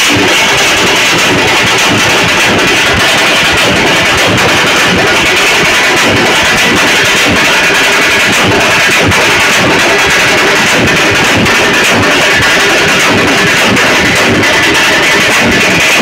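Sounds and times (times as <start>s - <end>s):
drums beaten rapidly: 0.0s - 16.0s.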